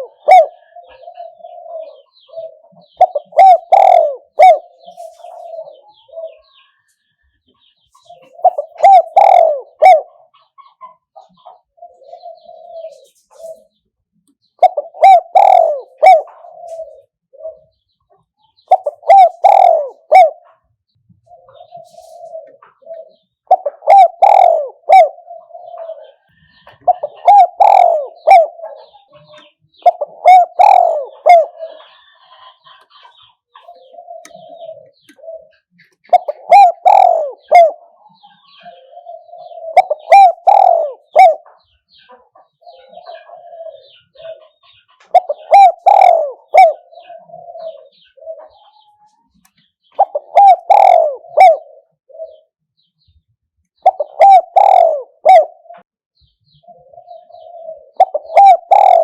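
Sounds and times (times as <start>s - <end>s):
dove cooing: 0.0s - 6.8s, 7.9s - 13.8s, 14.5s - 52.5s, 53.8s - 55.9s, 56.5s - 59.0s.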